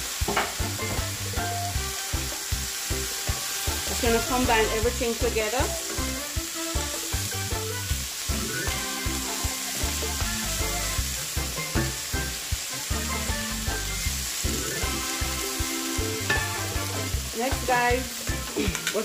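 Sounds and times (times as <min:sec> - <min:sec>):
background music: 0:00.0 - 0:19.0
vegetables sizzling in a skillet: 0:00.0 - 0:19.0.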